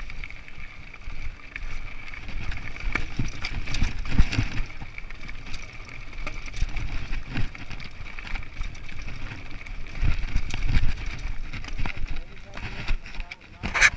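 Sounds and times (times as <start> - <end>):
bike rattling and knocking: 0.0 - 13.9
tyres crunching over loose rock: 2.2 - 13.9.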